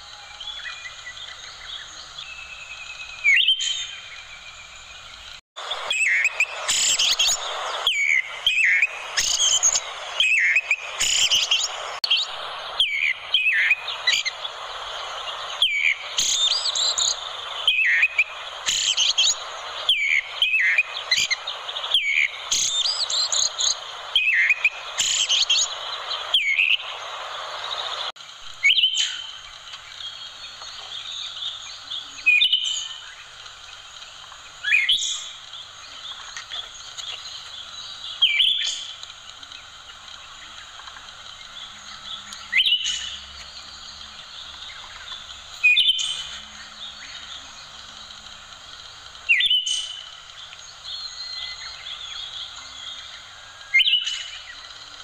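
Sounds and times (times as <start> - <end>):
steady hiss: 0.0 - 55.0
thrush singing whistles and chirps: 0.0 - 55.0.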